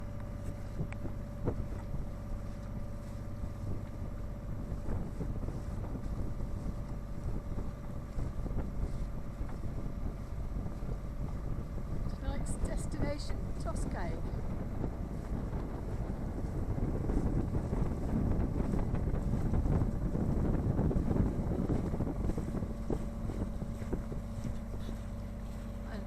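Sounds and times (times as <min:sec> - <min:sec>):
faint steady hum: 0:00.0 - 0:26.0
wind buffeting microphone: 0:00.0 - 0:26.0.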